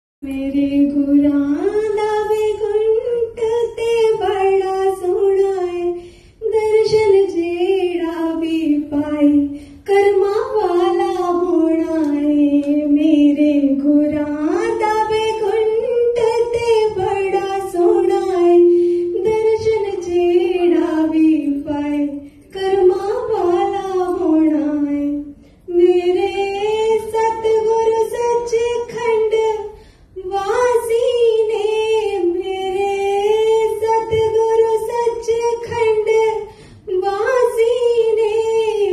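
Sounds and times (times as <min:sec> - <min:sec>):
woman singing into a microphone: 0:00.2 - 0:38.9.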